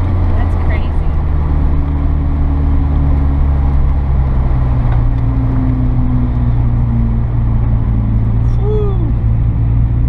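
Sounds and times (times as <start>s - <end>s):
car engine humming: 0.0s - 10.0s
road and tyre noise: 0.0s - 10.0s.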